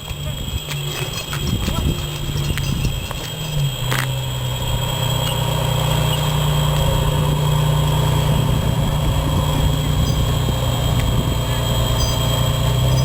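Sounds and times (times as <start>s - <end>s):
large vehicle engine idling: 0.0s - 13.0s.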